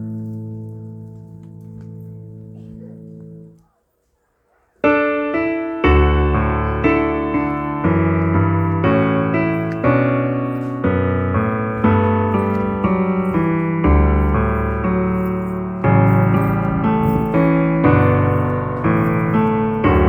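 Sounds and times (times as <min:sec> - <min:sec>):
piano playing steady notes: 0:00.0 - 0:03.6, 0:04.8 - 0:20.0.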